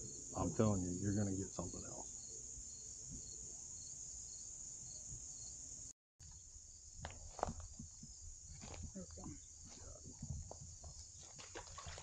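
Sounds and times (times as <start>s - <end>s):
insects chirping in chorus: 0.0s - 12.0s.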